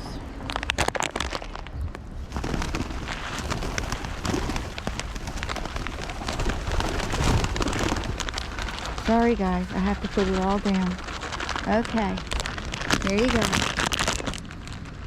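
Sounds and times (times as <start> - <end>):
bird seed bag rustling: 0.4 - 15.0.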